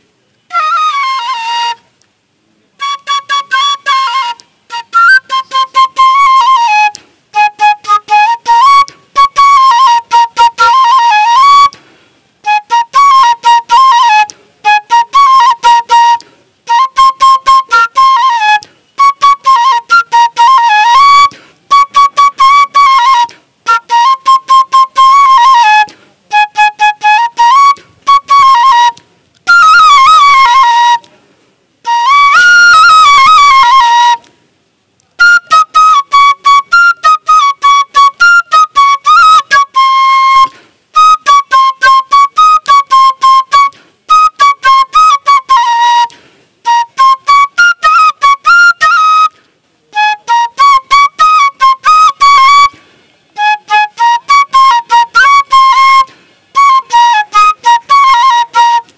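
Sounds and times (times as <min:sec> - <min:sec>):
bamboo flute playing folk tune: 0:00.0 - 0:58.9.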